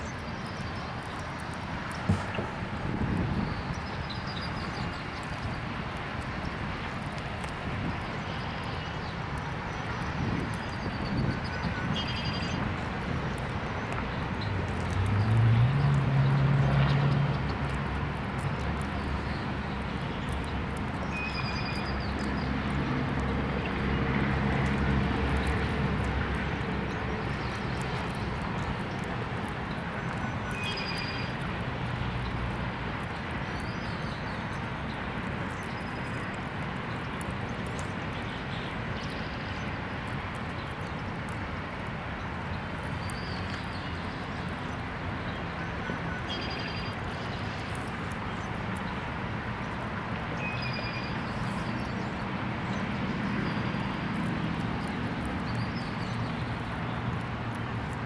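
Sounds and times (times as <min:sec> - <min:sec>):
distant road traffic rumble: 0:00.0 - 0:58.0.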